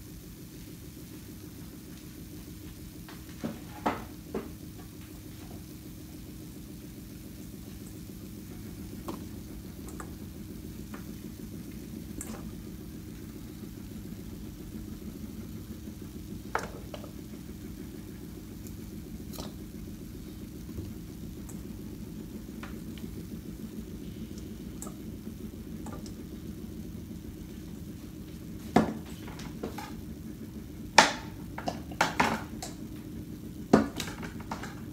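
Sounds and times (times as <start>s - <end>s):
appliance humming: 0.0s - 34.9s.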